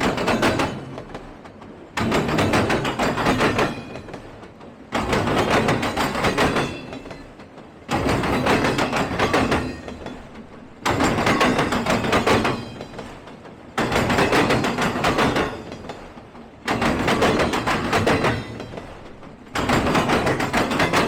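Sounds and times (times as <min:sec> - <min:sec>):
train wheels clattering over track: 0:00.0 - 0:21.0.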